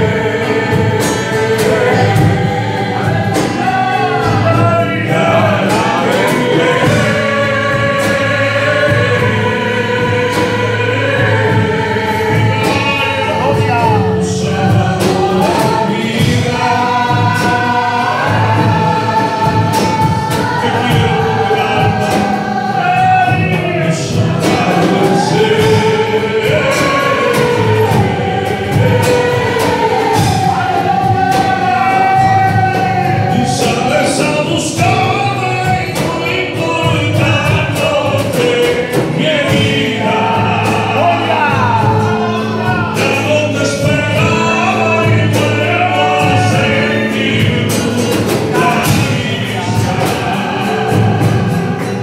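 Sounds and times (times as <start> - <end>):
man singing into a microphone: 0.0 - 29.2, 30.5 - 52.0
drum kit: 0.0 - 52.0
strummed acoustic guitar: 0.0 - 52.0.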